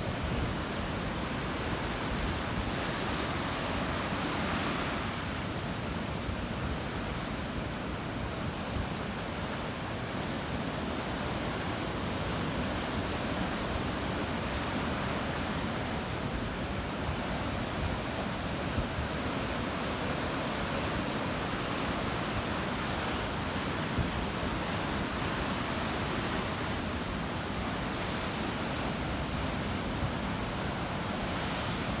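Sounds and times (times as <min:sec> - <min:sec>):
waves washing on shore: 0:00.0 - 0:32.0.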